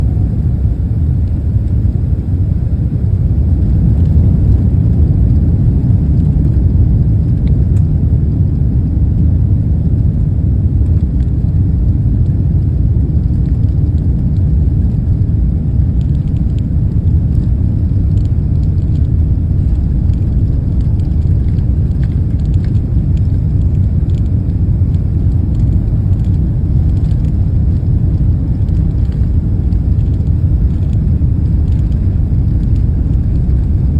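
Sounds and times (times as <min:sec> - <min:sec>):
jet engines rumbling: 0:00.0 - 0:33.9.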